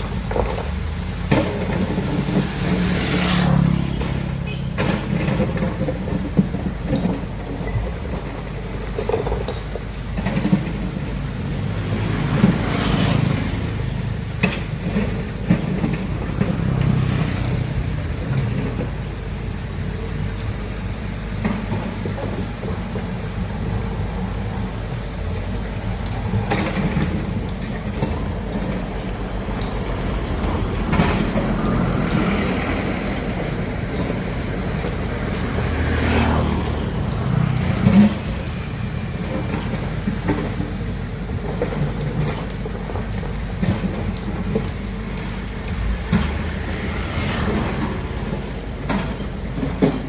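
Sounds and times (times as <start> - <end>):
excavator diesel engine rumbling: 0.0 - 50.0.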